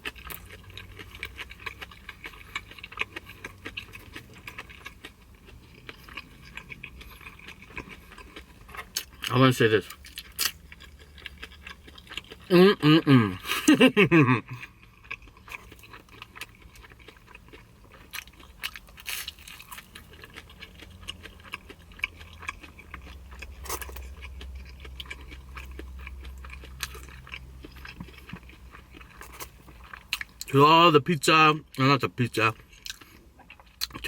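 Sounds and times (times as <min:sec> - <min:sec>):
person chewing pizza crust: 0:00.0 - 0:30.9, 0:31.7 - 0:34.0
low steady hum: 0:00.0 - 0:34.0.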